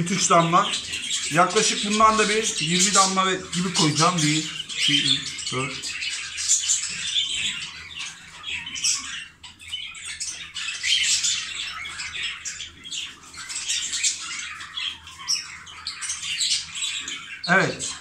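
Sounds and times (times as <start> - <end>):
budgerigars chattering and squawking: 0.0 - 18.0.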